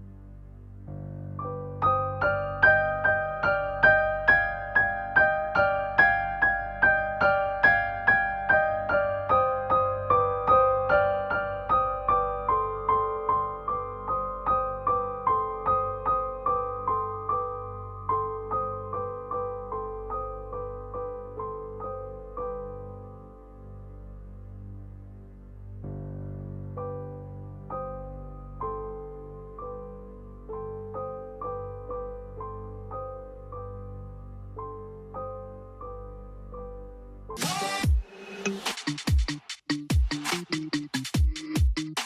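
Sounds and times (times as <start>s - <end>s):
gentle piano melody: 0.0s - 37.4s.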